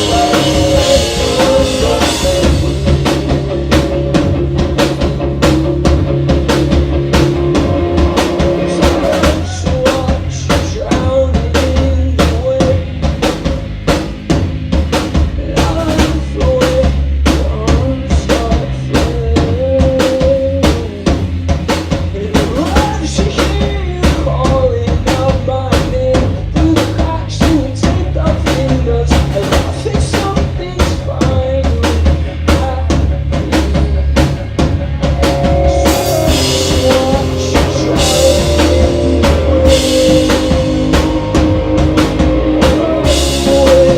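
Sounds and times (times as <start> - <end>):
bass and guitar: 0.0 - 43.9
bass drum and snare beat: 0.0 - 43.9.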